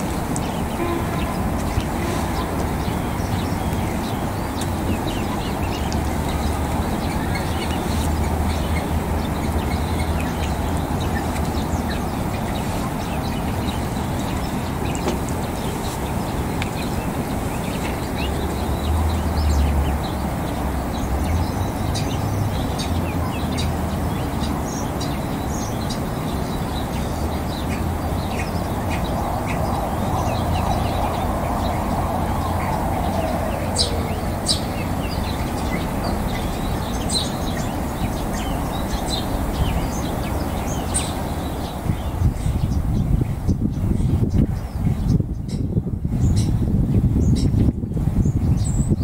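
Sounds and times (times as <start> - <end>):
ducklings peeping: 0.0 - 43.0.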